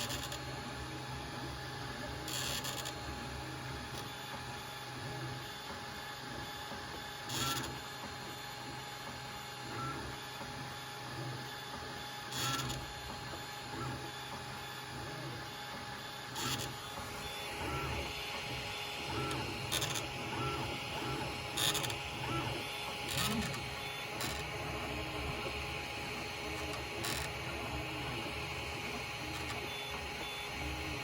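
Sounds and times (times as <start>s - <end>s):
printer mechanical hum: 0.0s - 31.0s.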